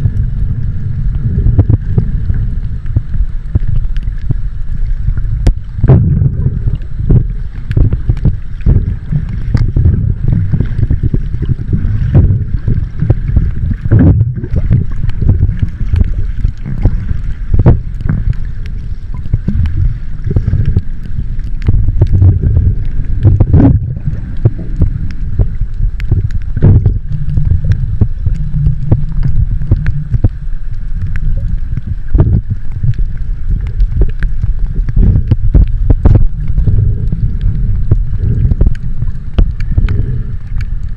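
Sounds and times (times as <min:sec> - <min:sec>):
underwater clicks and crackles: 0:00.0 - 0:40.9
underwater low rumble: 0:00.0 - 0:40.9.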